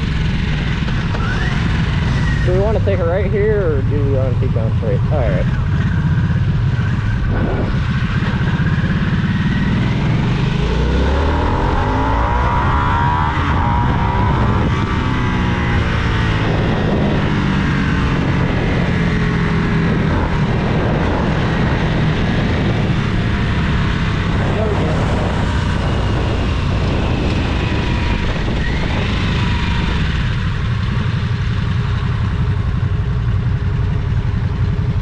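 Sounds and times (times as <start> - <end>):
motorcycle engine revving: 0.0 - 35.0
wind and road noise: 0.0 - 35.0.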